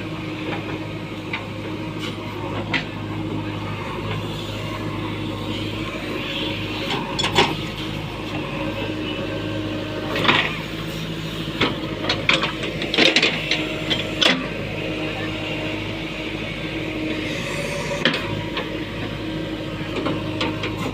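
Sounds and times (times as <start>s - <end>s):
backhoe diesel engine running: 0.0s - 20.9s.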